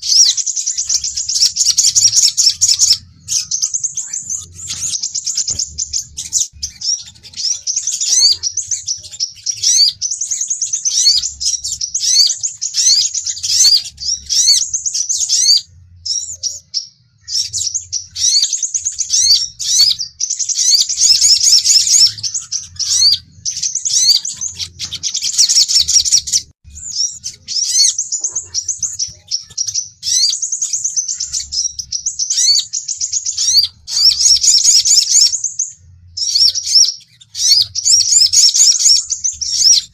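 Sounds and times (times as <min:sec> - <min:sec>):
sunbirds chirping and trilling: 0:00.0 - 0:39.9.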